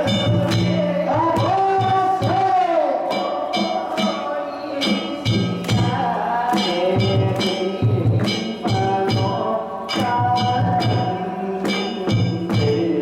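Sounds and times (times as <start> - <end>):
hand-held gongs ringing: 0.0 - 1.9, 3.1 - 13.0
taiko drum beating: 0.0 - 13.0.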